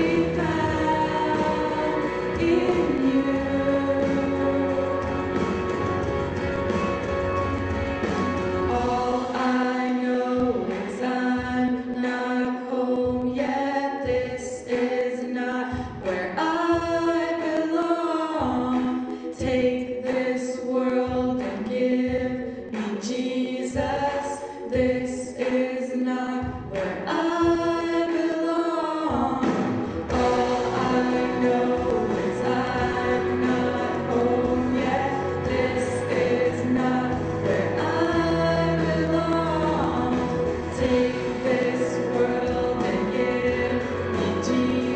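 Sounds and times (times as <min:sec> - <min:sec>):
women singing in harmony: 0:00.0 - 0:05.7, 0:08.7 - 0:44.9.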